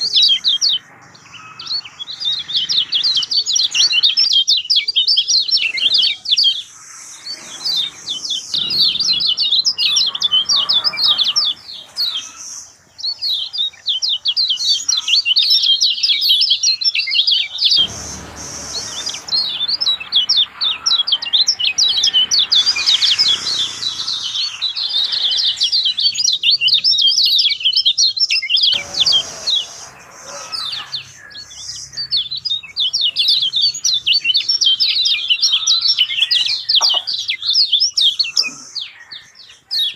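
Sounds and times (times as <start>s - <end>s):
songbird singing rapid chirps: 0.0s - 39.9s.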